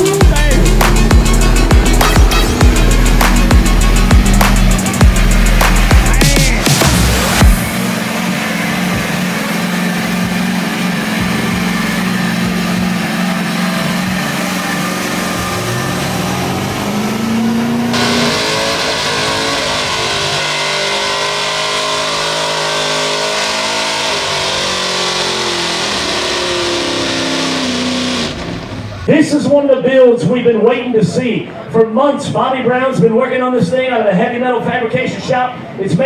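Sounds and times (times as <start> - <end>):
truck engine revving: 0.0 - 29.5.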